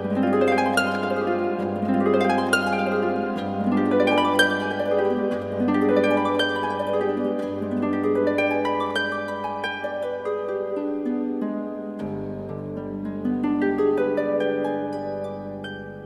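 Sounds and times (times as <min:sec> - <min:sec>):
harp plucked notes: 0:00.0 - 0:16.0.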